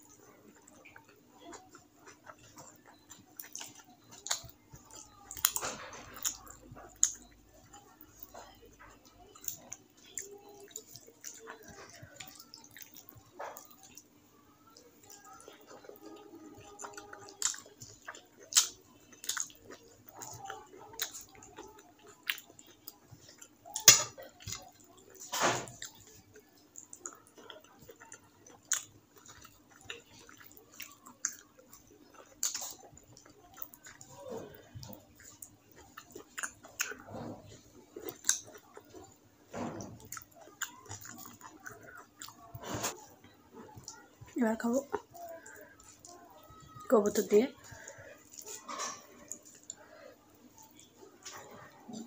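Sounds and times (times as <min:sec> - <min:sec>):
chewing: 0:00.0 - 0:52.0
fingers mixing wet food: 0:00.0 - 0:52.0.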